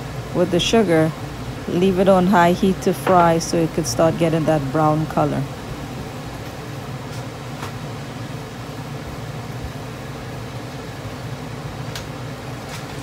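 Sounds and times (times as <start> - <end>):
low hum: 0.0 - 12.5.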